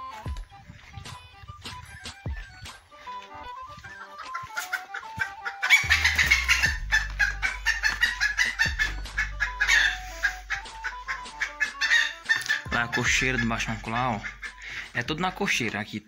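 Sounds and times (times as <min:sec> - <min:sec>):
chickens clucking: 0:00.0 - 0:15.7
background music: 0:00.0 - 0:16.0.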